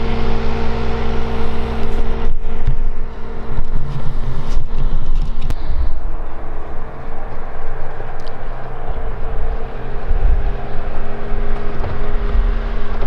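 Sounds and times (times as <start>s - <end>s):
engine drone: 0.0s - 13.0s
wind rumble on microphone: 0.0s - 13.0s.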